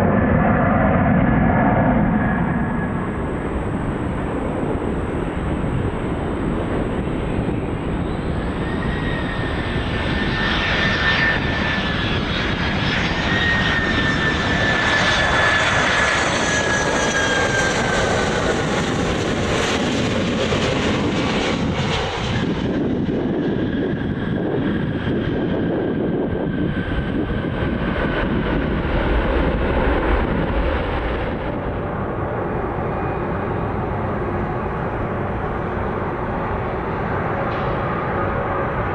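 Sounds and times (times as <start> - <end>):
jet engines roaring past: 0.0 - 38.9.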